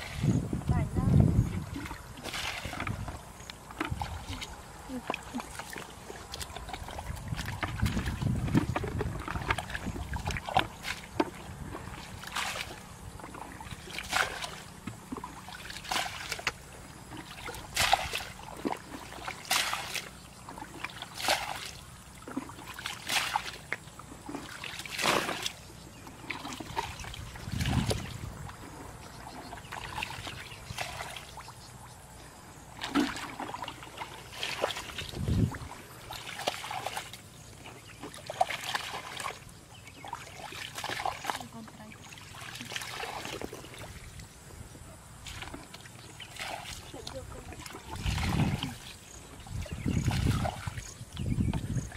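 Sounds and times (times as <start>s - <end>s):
muddy water splashing: 0.0s - 51.9s.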